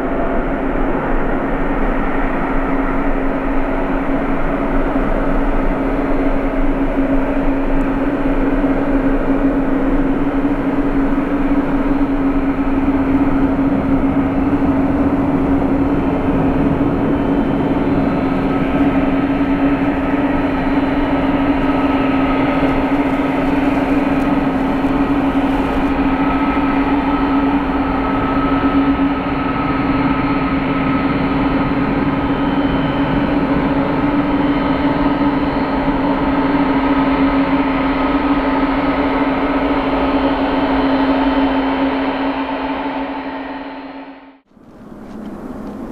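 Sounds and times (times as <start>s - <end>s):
jet engine whine: 0.0s - 45.9s
jet engines humming: 0.0s - 45.9s.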